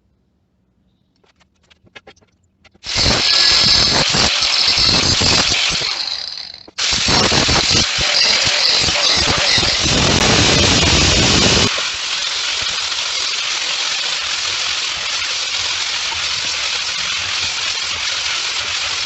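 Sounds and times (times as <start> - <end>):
power tool running: 2.8 - 19.0.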